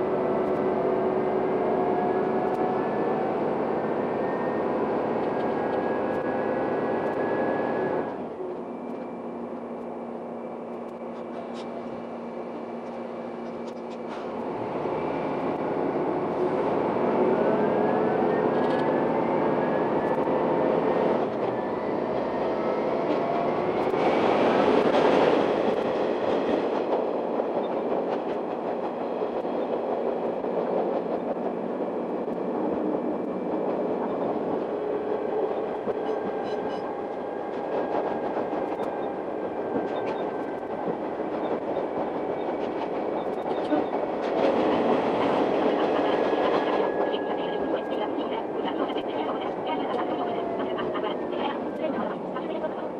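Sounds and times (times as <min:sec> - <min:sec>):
diesel railcar engine: 0:00.0 - 0:52.9.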